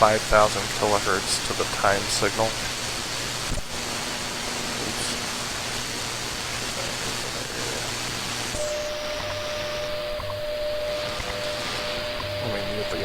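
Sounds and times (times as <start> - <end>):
radio static hiss: 0.0 - 13.0
steady radio tone: 0.0 - 13.0.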